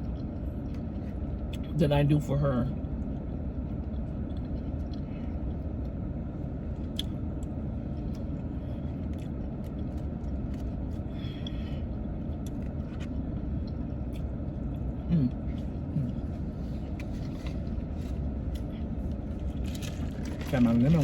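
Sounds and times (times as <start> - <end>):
chewing and eating: 0.0 - 1.7, 2.8 - 21.0
car interior rumble: 0.0 - 21.0.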